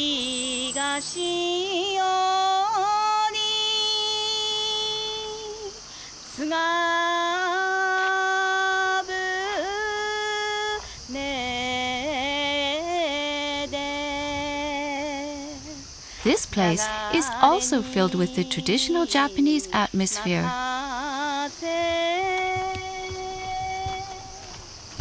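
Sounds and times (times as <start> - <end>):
woman singing solo: 0.0 - 24.5.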